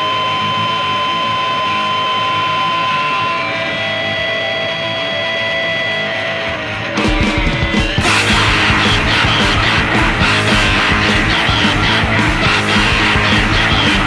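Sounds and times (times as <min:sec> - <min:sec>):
electric guitar feedback: 0:00.0 - 0:14.0.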